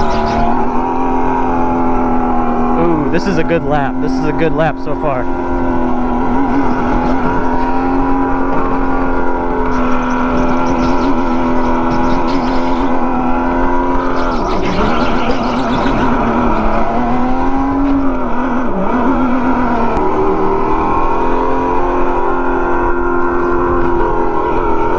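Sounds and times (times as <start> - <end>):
go-kart motor at high revs: 0.0 - 24.9.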